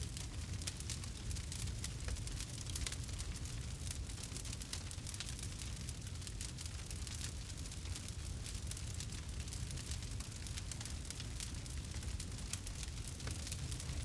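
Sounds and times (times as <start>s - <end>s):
campfire crackles and pops: 0.0s - 14.0s
low fire rumble: 0.0s - 14.0s.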